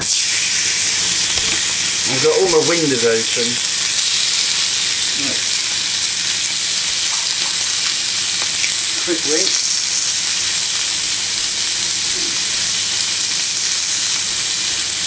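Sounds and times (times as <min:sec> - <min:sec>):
steaks sizzling on a griddle: 0:00.0 - 0:15.0.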